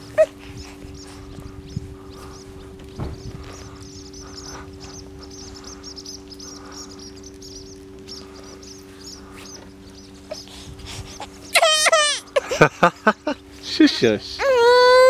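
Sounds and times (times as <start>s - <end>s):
small bird twittering: 0.0s - 12.6s
faint low hum: 0.0s - 15.0s.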